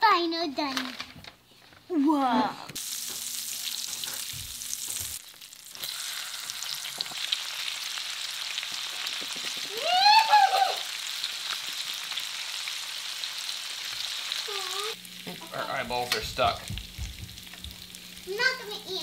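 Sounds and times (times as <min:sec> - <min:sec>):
fish sizzling in a pan: 0:02.8 - 0:19.0.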